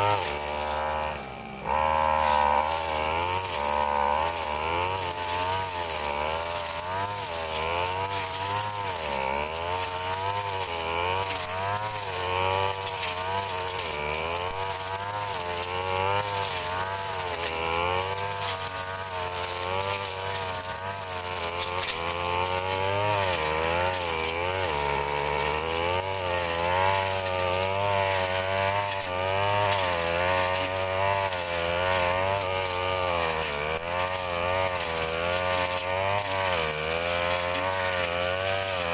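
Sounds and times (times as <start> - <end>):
brush cutter engine at high revs: 0.0 - 38.9.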